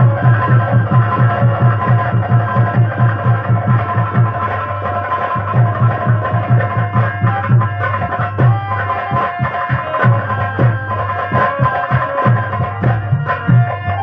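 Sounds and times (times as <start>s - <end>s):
hand drum beats: 0.0s - 14.0s
held melody notes: 0.0s - 14.0s.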